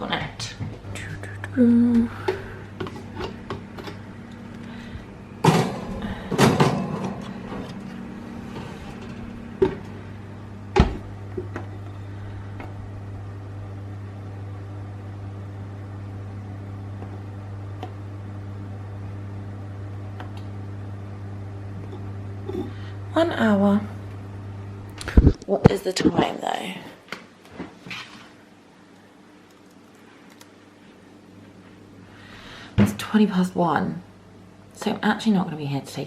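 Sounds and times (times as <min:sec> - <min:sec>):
oven humming: 0:00.0 - 0:36.0.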